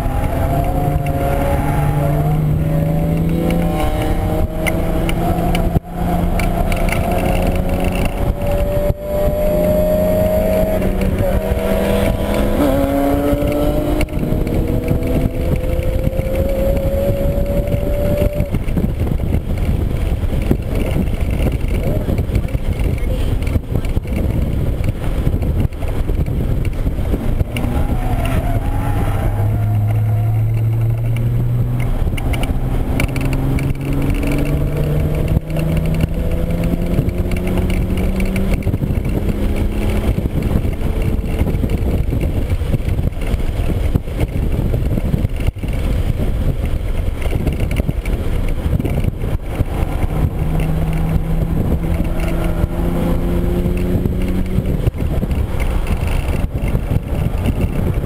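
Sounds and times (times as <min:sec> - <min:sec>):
car engine revving: 0:00.0 - 0:58.0
wind and road roar: 0:00.0 - 0:58.0.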